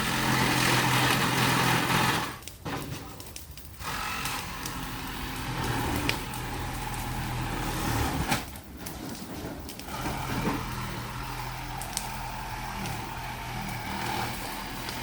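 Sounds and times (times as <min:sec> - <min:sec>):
engine running: 0:00.0 - 0:02.5, 0:03.8 - 0:15.0.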